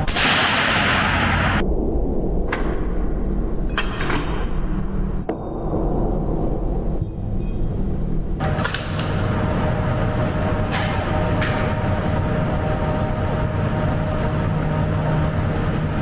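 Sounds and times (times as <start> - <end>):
steady mechanical hum: 0.0 - 1.6, 2.5 - 16.0.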